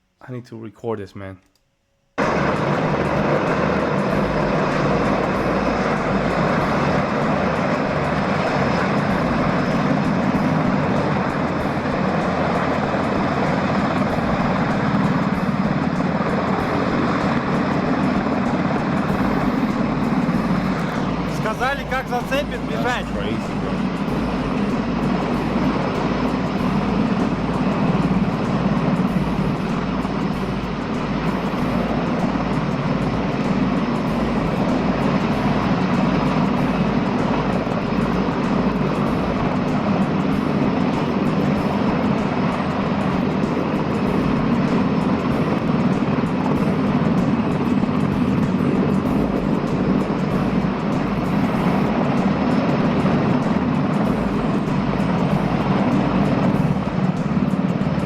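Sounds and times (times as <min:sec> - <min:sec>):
helicopter rotor and engines droning: 0:02.2 - 0:58.0.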